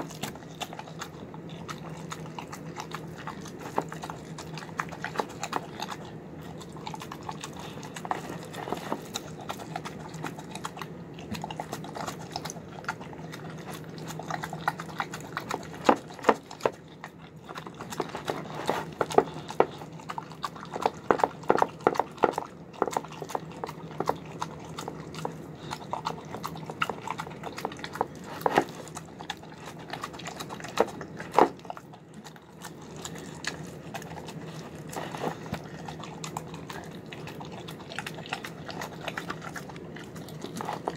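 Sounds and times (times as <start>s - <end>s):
dog chewing and slurping food: 0.0s - 40.9s
teeth clacking in plastic bowl: 0.0s - 40.9s.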